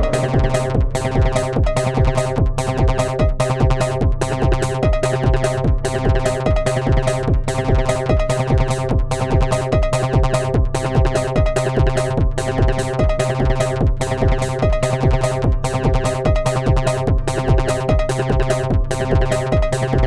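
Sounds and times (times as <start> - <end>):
drum machine beat: 0.0 - 20.0
repeating synth notes: 0.0 - 20.0.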